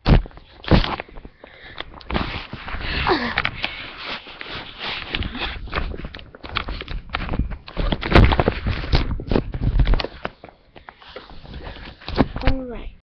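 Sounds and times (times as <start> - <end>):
microphone handling noise: 0.0 - 12.6.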